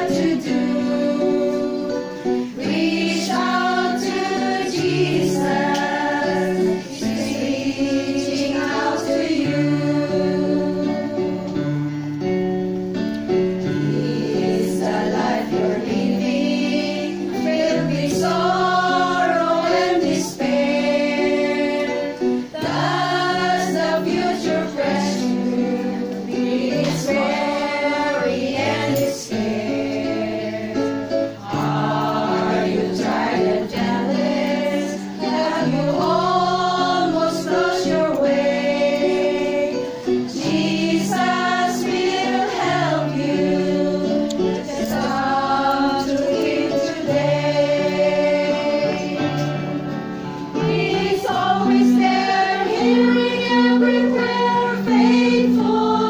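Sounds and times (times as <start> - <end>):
women's choir singing a hymn: 0.0 - 56.0.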